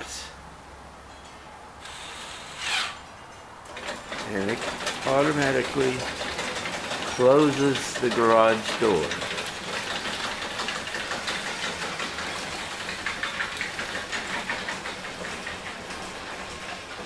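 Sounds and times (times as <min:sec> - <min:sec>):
garage door opener running: 0:01.8 - 0:17.0.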